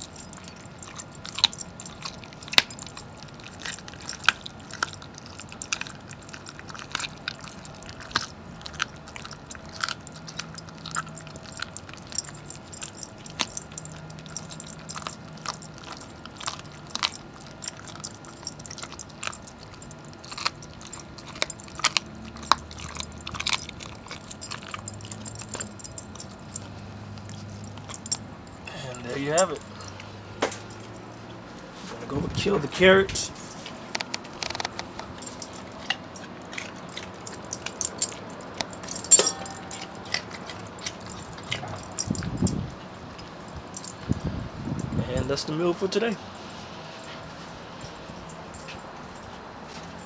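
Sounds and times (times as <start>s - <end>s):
dog chewing bone: 0.0s - 31.1s, 33.4s - 44.2s
collar tags jingling: 0.0s - 50.0s.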